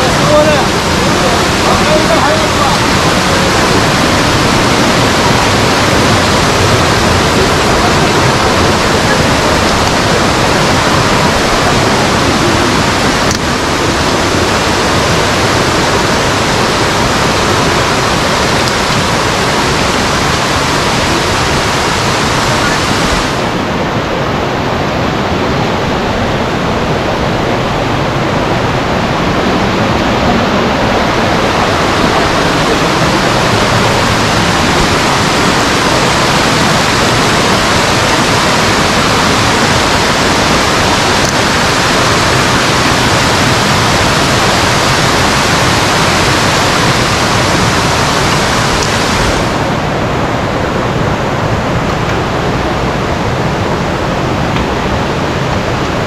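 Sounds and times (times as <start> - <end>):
rushing stream water: 0.0 - 56.0.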